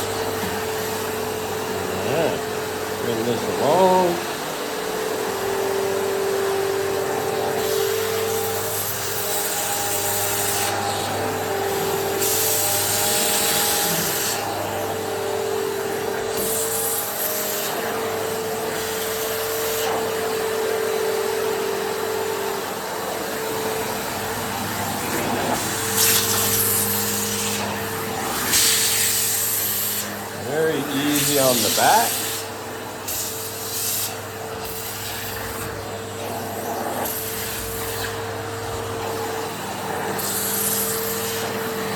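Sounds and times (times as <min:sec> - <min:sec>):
air rushing through vacuum tool: 0:00.0 - 0:41.9
vacuum cleaner motor hum: 0:00.0 - 0:41.9.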